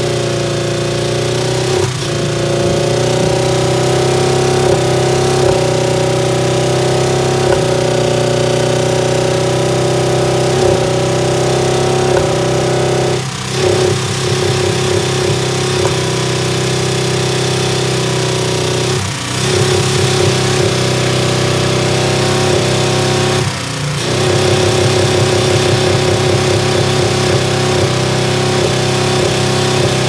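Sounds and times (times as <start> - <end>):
car engine running: 0.0 - 30.0
engine knocking: 0.0 - 30.0
fast rattling engine knock: 0.3 - 8.2, 10.5 - 30.0.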